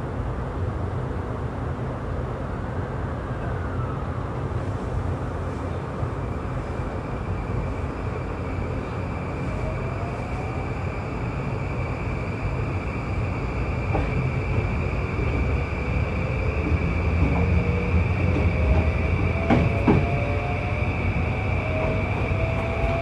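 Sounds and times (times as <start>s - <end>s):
steady train rumble: 0.0s - 23.0s.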